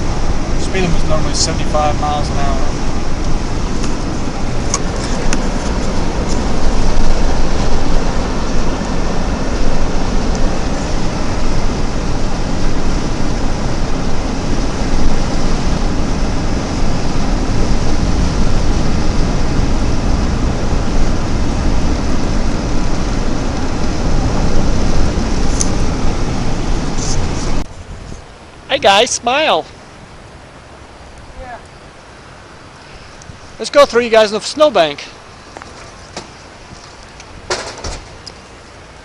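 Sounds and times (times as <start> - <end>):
road noise: 0.0 - 39.0
wind noise: 0.0 - 39.0.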